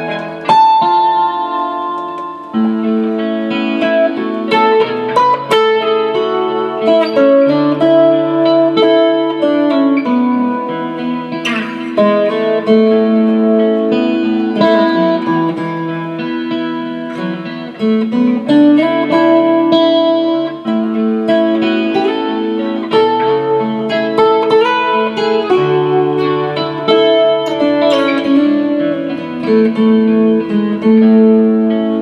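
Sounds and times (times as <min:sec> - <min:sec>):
guitar chords and picked notes: 0:00.0 - 0:32.0
looped guitar phrase: 0:00.0 - 0:32.0.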